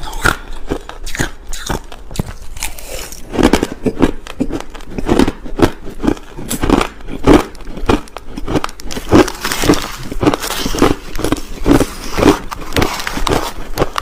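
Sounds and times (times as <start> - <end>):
chewing crushed ice crunches: 0.0 - 14.0.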